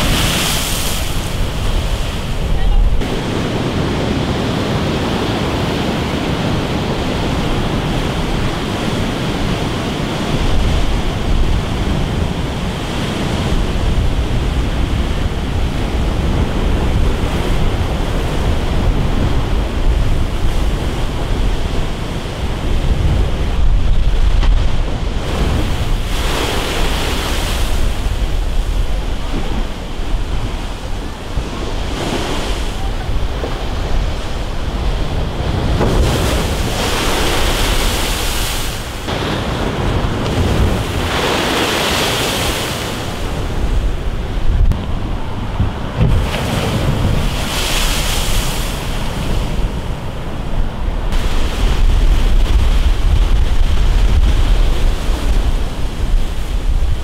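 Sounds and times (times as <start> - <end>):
surf crashing against seawall: 0.0 - 57.0
wind buffeting microphone: 0.0 - 57.0.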